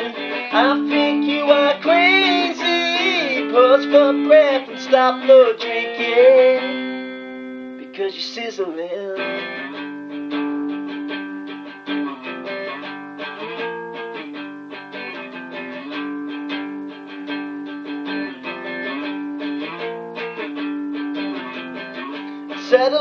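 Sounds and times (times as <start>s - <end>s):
strummed guitar chords: 0.0s - 23.0s.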